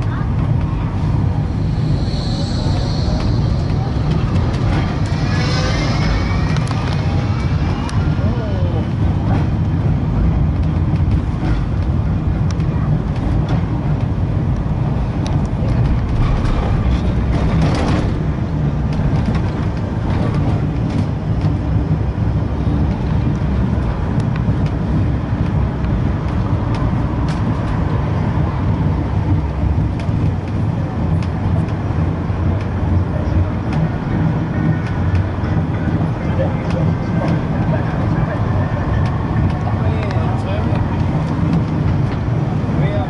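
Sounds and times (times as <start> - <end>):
tram wheels rumbling: 0.0 - 43.0.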